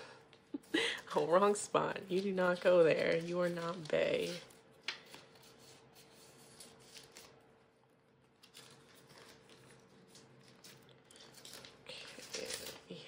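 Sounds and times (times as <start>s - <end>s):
cards rustling into plastic sleeves: 0.4s - 13.0s.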